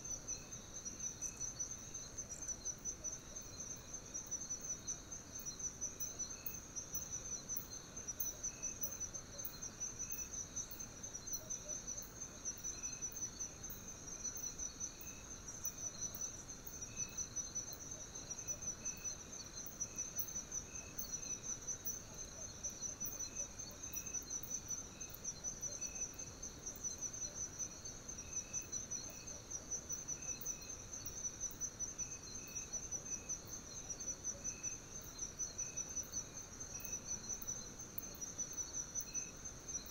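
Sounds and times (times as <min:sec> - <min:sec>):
insects trilling: 0:00.0 - 0:39.9
low insect chirps: 0:00.0 - 0:39.9.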